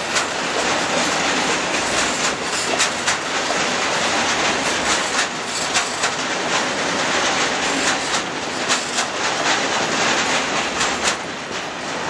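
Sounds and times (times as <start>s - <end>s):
wheels clicking over rail joints: 0.0s - 11.8s
train wheels rushing on rail: 0.0s - 12.0s.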